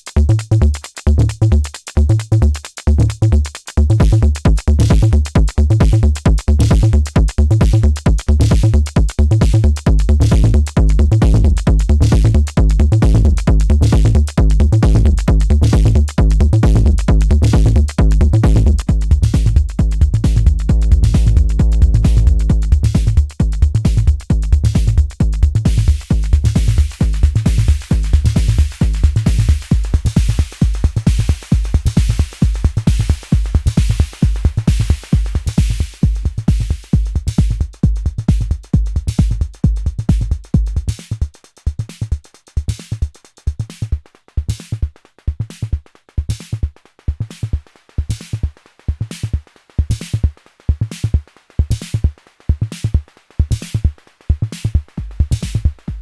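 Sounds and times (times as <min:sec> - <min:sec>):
drum machine beat: 0:00.0 - 0:56.0
heavy kick and bass: 0:00.0 - 0:56.0.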